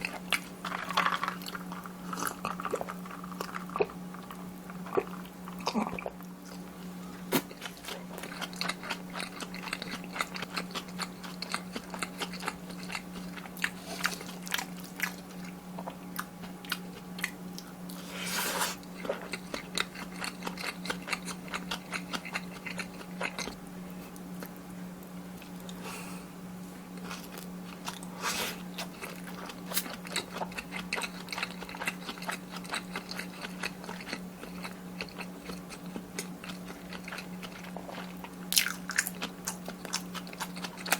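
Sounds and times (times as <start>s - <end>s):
chewing and wet mouth sounds: 0.0s - 25.8s, 27.0s - 40.9s.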